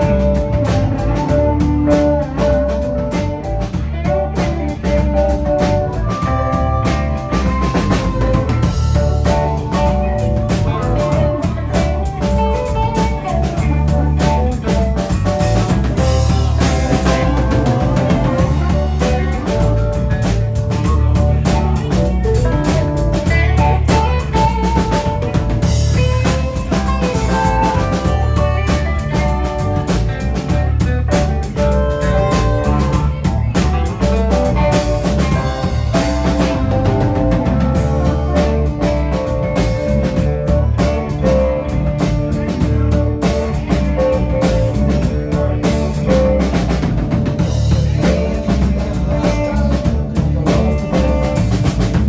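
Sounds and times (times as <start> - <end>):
drum kit beat: 0.0 - 52.0
electric guitar: 0.0 - 52.0
keyboard: 0.0 - 52.0.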